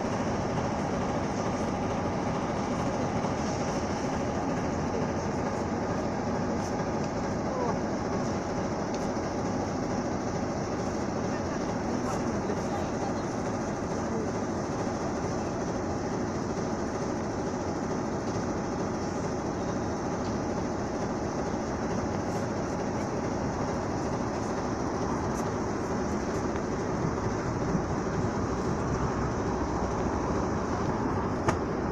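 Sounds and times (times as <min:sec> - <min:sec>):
train rumble at station: 0:00.0 - 0:31.9.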